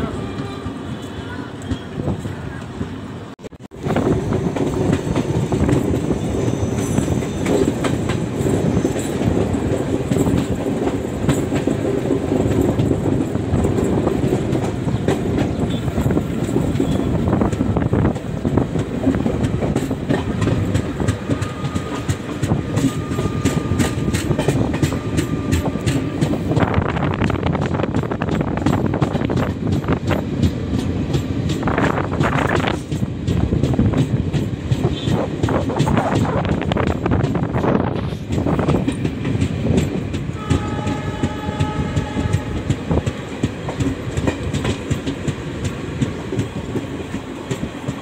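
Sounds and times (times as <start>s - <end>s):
train rumble: 0.0s - 48.0s
wheels clacking over rail joints: 4.1s - 48.0s.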